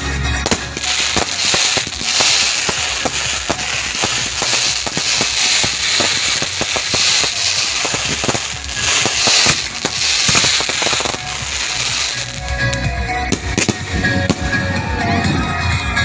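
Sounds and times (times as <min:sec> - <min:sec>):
fireworks crackling and banging: 0:00.0 - 0:15.4.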